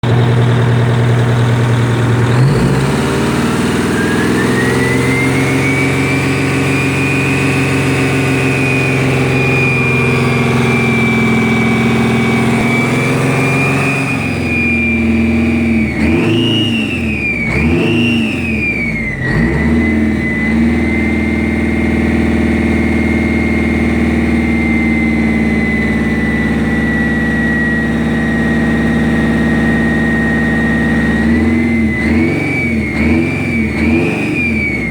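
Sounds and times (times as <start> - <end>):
diesel engine revving: 0.0 - 34.9
turbo whine: 0.0 - 34.9.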